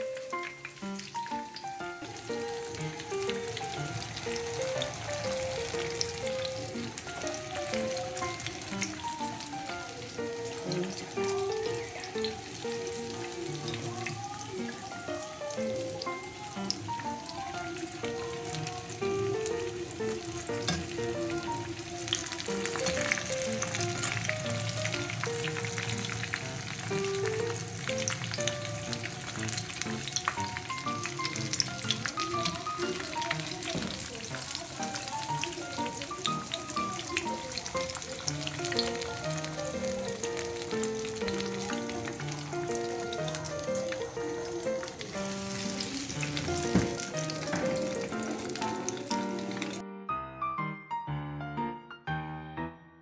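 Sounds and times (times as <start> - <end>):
chicken frying in oil: 0.0 - 49.8
soft background music: 0.0 - 53.0.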